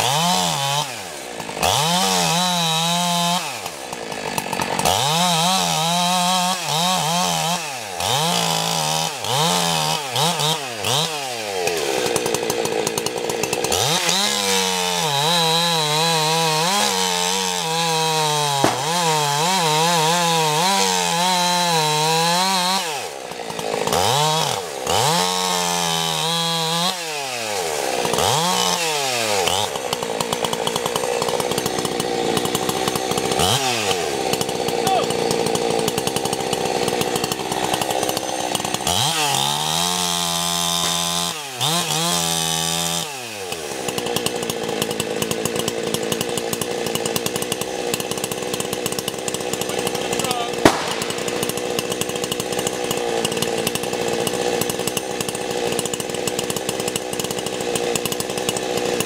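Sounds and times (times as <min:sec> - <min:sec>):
chainsaw cutting tree: 0:00.0 - 0:59.0.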